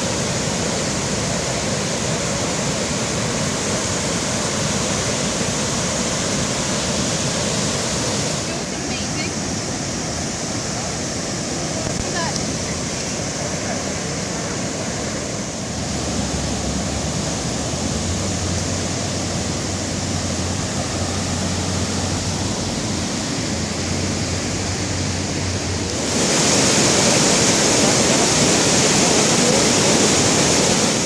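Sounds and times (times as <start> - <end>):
flood water rushing: 0.0 - 31.0.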